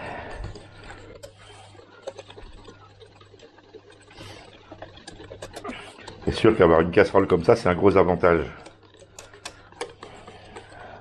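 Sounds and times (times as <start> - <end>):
whisk clicking against saucepan: 0.0 - 11.0.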